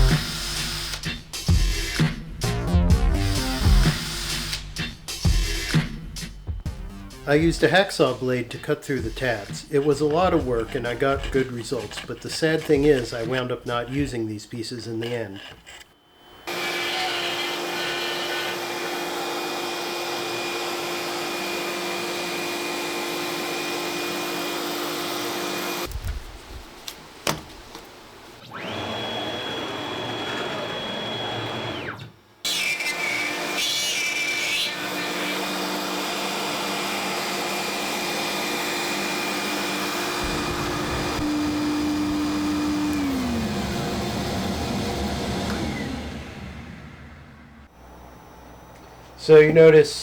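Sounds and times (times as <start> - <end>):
router spindle cutting wood: 0.0 - 1.1, 3.3 - 4.9, 7.3 - 25.9, 28.4 - 48.4.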